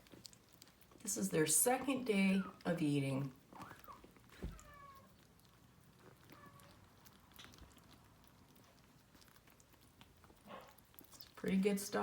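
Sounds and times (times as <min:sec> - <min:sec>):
kittens chewing food: 0:00.0 - 0:12.0.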